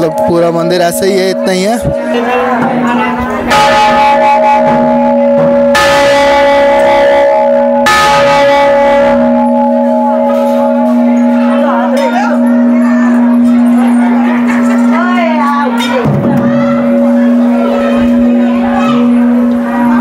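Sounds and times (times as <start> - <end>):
large brass bell ringing: 0.0 - 20.0.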